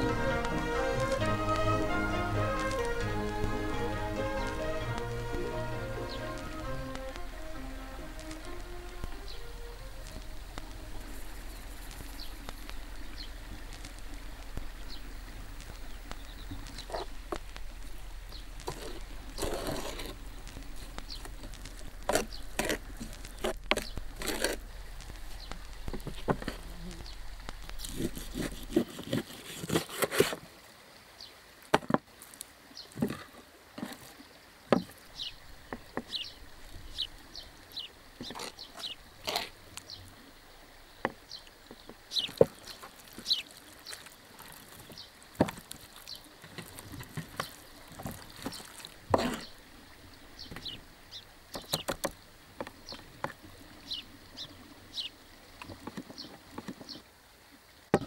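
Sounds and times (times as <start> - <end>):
birds chirping: 0.0 - 29.2, 34.2 - 57.0.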